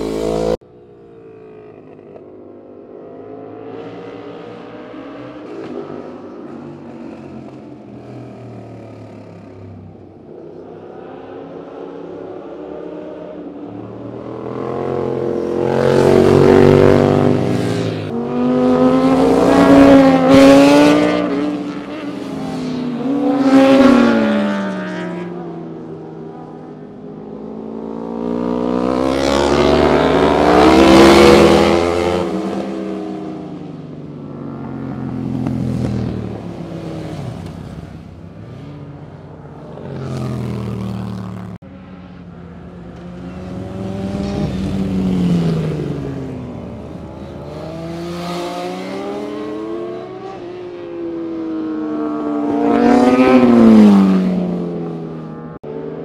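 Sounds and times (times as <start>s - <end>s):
motorcycles passing by: 0.0s - 56.0s.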